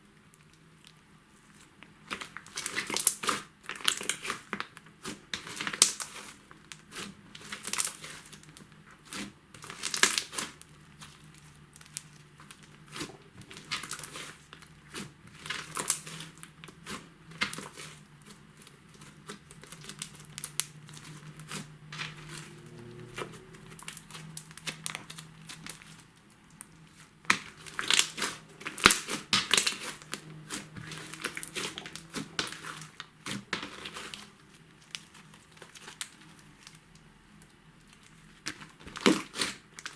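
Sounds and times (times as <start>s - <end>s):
slime crackling and popping: 0.3s - 39.9s.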